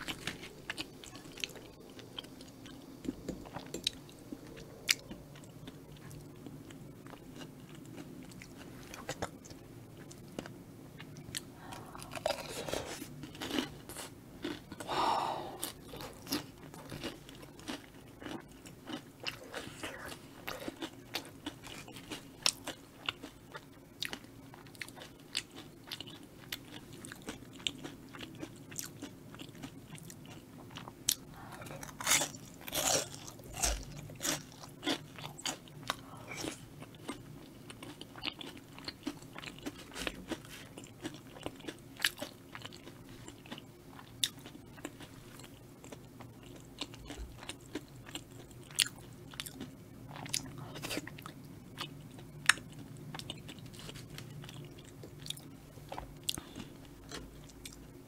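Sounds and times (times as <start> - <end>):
crunchy chewing of fried food: 0.0 - 58.0.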